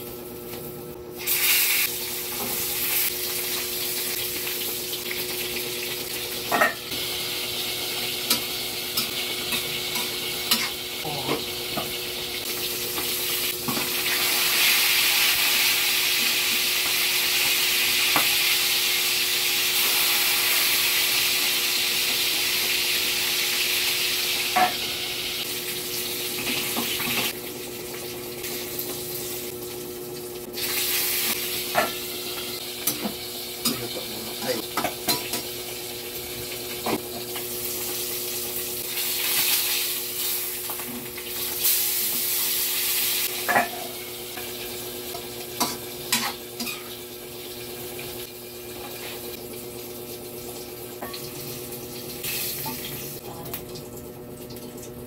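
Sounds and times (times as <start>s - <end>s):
fish sizzling in hot oil: 1.1s - 53.5s.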